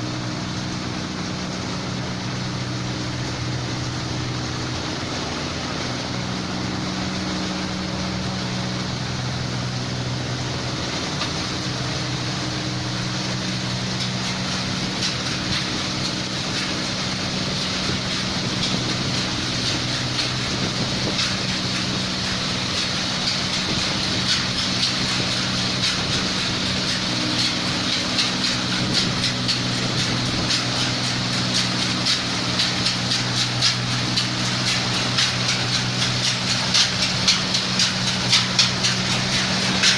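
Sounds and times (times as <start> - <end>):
combine harvester engine hum: 0.0 - 39.9
rapid clattering rattle: 0.0 - 39.9.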